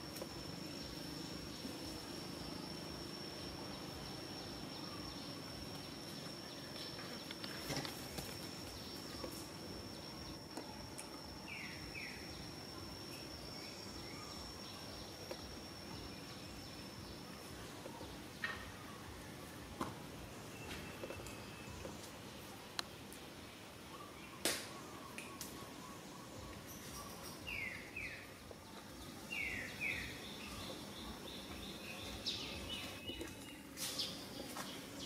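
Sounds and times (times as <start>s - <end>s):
insect high-pitched drone: 0.0s - 22.1s, 23.7s - 35.0s.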